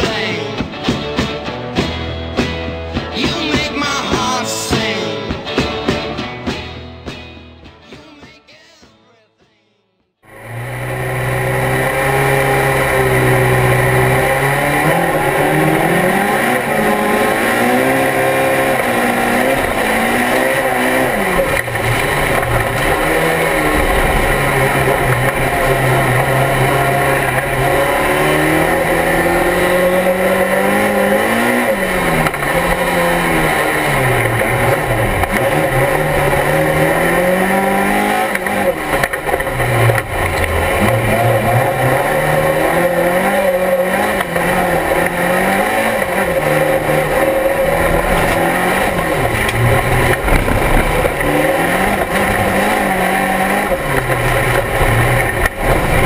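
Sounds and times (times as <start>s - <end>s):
car engine revving: 10.2s - 56.0s.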